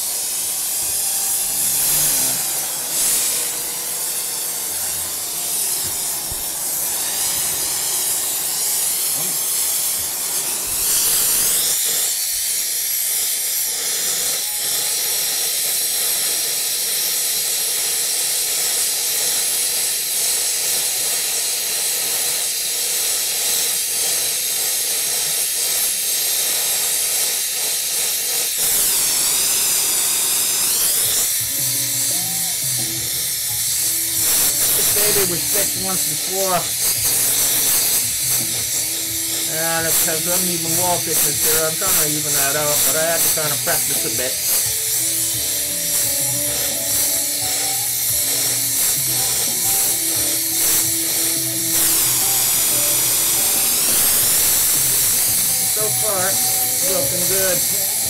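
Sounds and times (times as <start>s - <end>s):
torch flame hissing: 0.0s - 58.0s.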